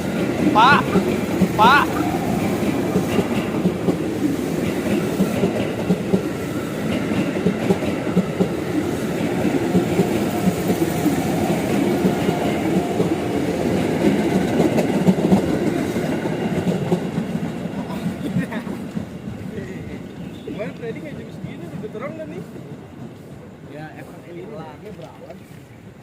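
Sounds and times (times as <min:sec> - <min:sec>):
train rumbling past: 0:00.0 - 0:24.8.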